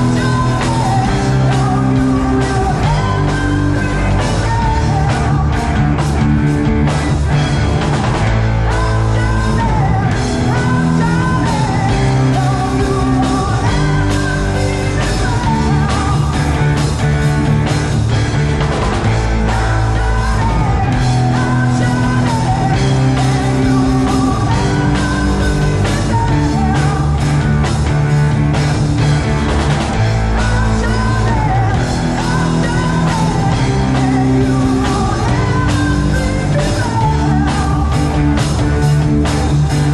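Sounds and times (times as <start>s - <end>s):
person singing: 0.0s - 6.2s, 8.6s - 17.2s, 19.0s - 27.7s, 30.2s - 39.9s
heavy rock band playing: 0.0s - 39.9s.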